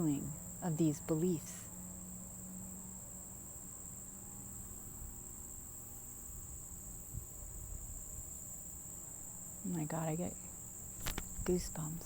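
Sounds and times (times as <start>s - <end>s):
crickets trilling: 0.0s - 12.0s
faint low hum: 0.0s - 12.0s.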